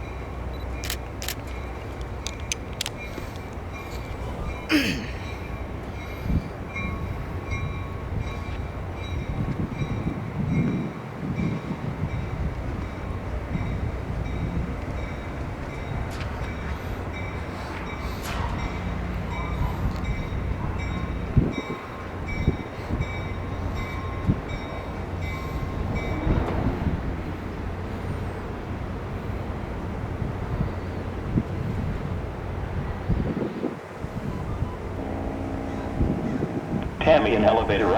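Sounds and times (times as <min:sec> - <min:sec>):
train rumbling past: 0:00.0 - 0:37.9.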